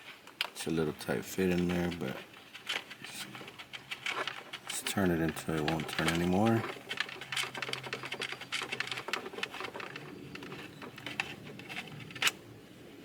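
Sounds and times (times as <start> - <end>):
connector clicks and rattles: 0.3 - 12.4.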